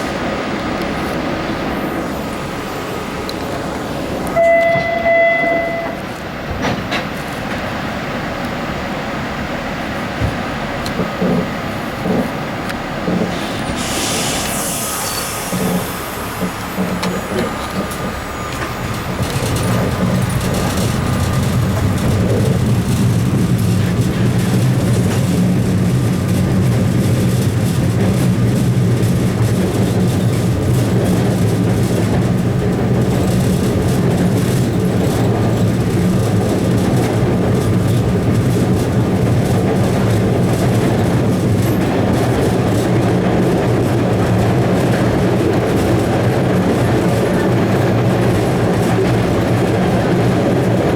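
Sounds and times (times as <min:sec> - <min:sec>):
subway car rumbling on rails: 0:00.0 - 0:50.9.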